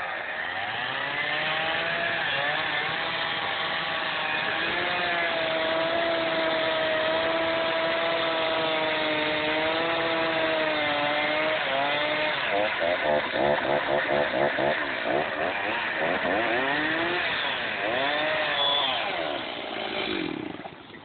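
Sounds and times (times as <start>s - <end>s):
chainsaw cutting into log: 0.0s - 21.0s.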